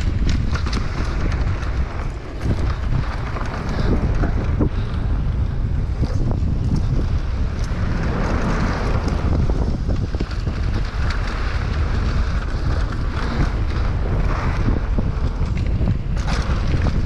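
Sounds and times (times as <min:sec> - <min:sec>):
bike rattles and clicks: 0:00.0 - 0:17.0
tyres crunching on loose dirt: 0:00.0 - 0:17.0
wind buffeting microphone: 0:00.0 - 0:17.0.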